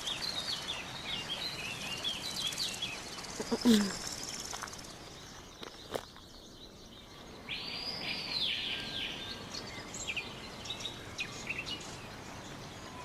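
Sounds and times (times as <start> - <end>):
wild birds calling: 0.0 - 13.0.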